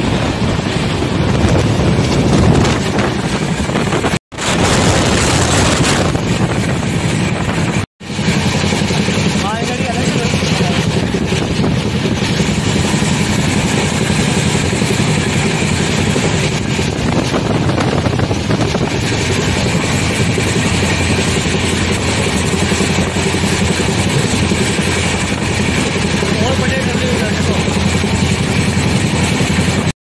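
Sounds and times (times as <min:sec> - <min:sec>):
train rumbling over track: 0:00.0 - 0:29.9.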